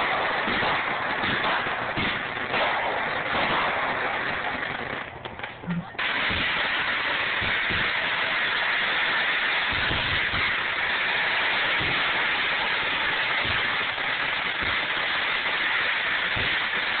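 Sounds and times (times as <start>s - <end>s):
fireworks crackling hiss: 0.0s - 17.0s.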